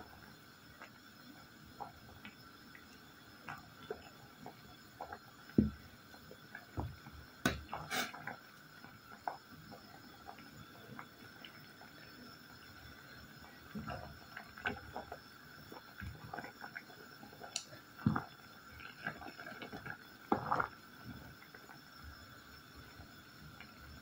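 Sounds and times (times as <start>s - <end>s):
faint steady hum: 0.0s - 24.0s
pot boiling with popping bubbles: 0.0s - 24.0s.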